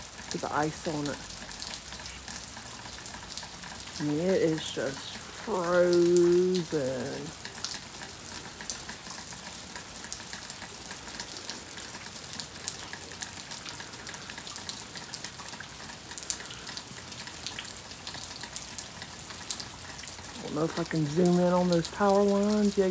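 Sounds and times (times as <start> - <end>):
freezing rain pattering on ice: 0.0 - 22.9.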